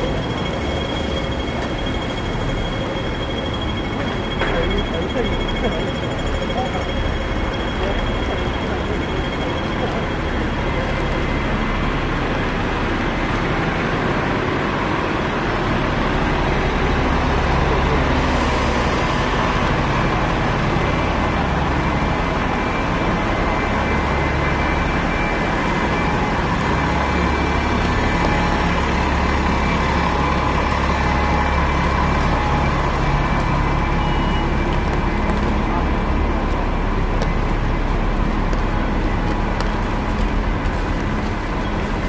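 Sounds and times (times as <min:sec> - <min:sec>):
deep engine rumble: 0:00.0 - 0:42.0
heavy vehicle engines running: 0:00.0 - 0:42.0
road noise: 0:00.0 - 0:42.0.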